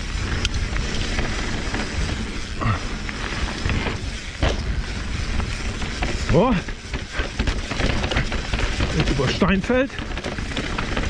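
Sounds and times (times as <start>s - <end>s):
bike rattling: 0.0s - 11.0s
bike tyres on gravel: 0.0s - 11.0s
wind rumbling on microphone: 0.0s - 11.0s.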